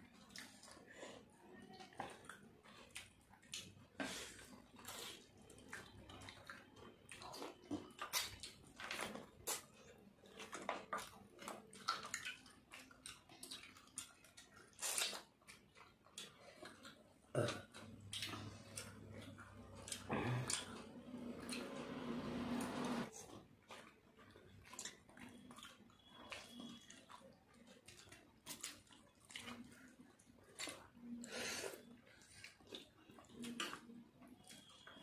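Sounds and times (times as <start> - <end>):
wet mouth smacks and chewing: 0.1 - 0.9, 1.9 - 20.8, 23.6 - 35.0.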